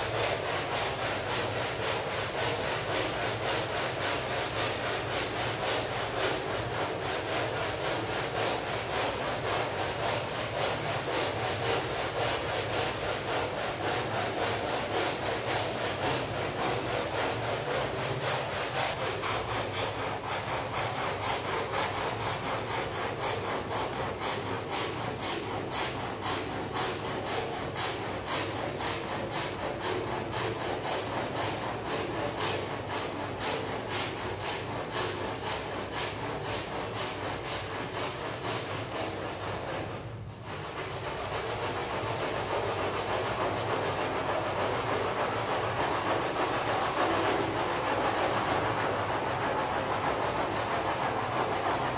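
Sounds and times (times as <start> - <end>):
stiff brush scrubbing rug: 0.0 - 51.9.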